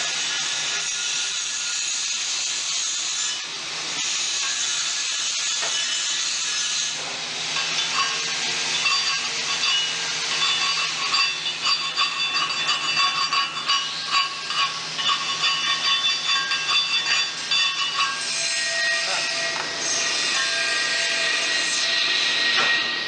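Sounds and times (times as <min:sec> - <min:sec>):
welding arc hissing and crackling: 0:00.0 - 0:22.9.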